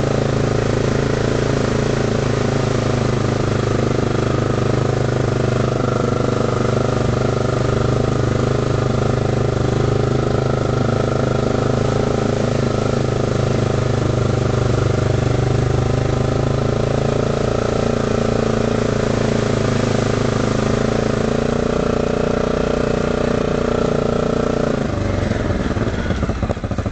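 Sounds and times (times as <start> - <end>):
quad bike engine running: 0.0 - 26.9.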